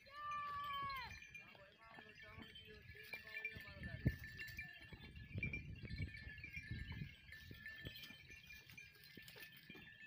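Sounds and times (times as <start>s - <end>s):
small bells tinkling: 0.0s - 10.0s.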